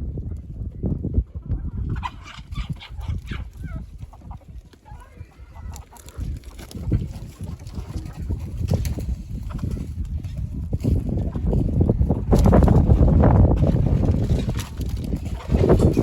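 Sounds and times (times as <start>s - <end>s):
low rumble on microphone: 0.0s - 16.0s
chickens clucking and squawking: 0.1s - 16.0s.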